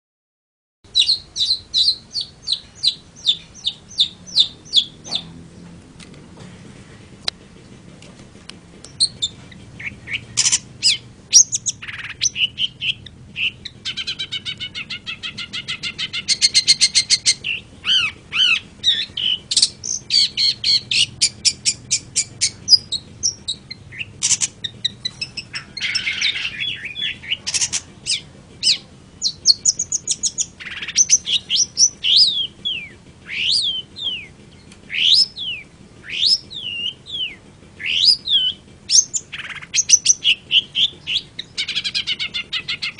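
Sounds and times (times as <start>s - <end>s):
bird singing varied song: 0.9s - 5.9s, 8.8s - 42.9s.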